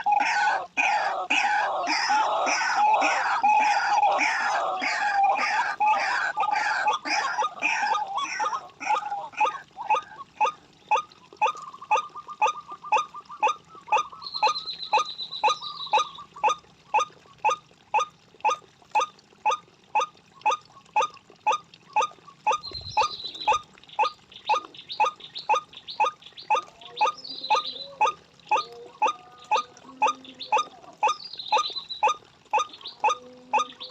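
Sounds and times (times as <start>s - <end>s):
waterhen calling harsh notes: 0.0s - 33.9s.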